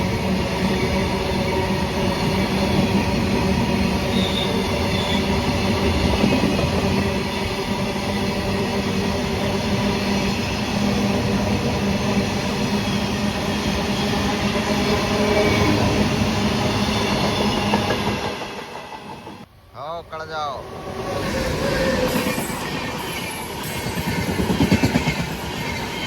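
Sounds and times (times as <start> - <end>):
train wheels on rails: 0.0 - 19.5, 20.8 - 26.0.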